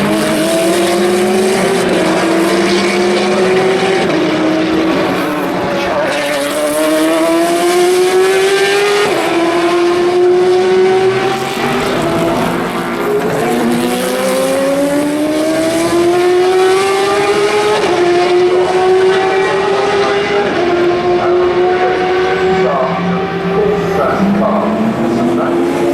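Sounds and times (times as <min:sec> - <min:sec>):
race car engines accelerating: 0:00.0 - 0:25.9.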